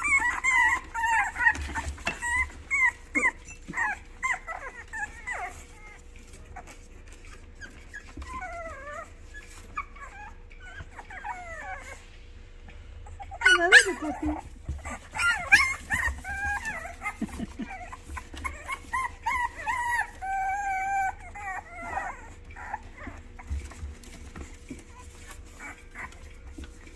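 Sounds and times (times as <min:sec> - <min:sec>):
puppies whimpering and squeaking: 0:00.0 - 0:26.9.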